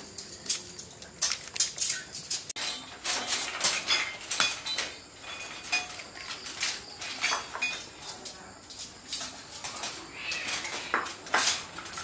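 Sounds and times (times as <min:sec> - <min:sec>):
kitchenware clinking on metal pot: 0:01.6 - 0:12.0.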